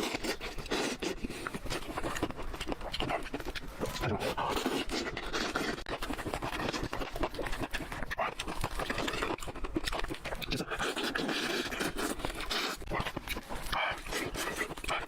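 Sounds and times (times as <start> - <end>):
close chewing and lip-smacking: 0.0 - 15.0.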